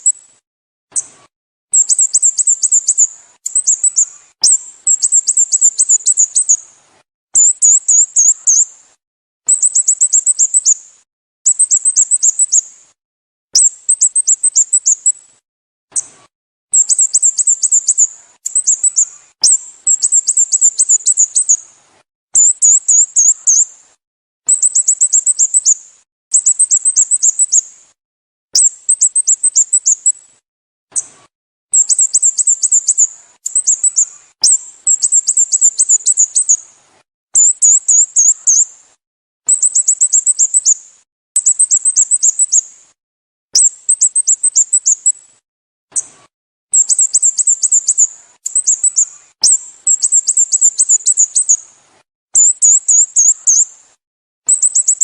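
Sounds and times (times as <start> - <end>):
small bird chirping: 0.0 - 6.8, 7.4 - 12.9, 13.5 - 21.8, 22.4 - 43.0, 43.6 - 55.0.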